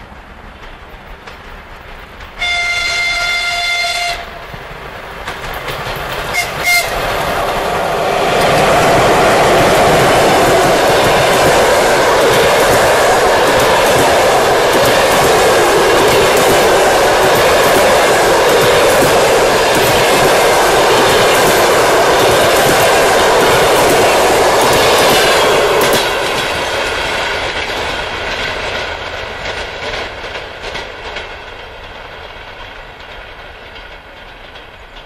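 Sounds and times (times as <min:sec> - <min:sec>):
train wheels clattering: 0:00.4 - 0:35.0.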